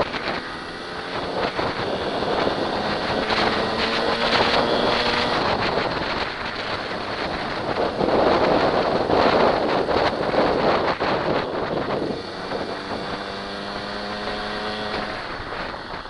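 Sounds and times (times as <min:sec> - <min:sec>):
dirt bike engine running hard: 0:00.0 - 0:16.0
wind noise on microphone: 0:00.0 - 0:16.0.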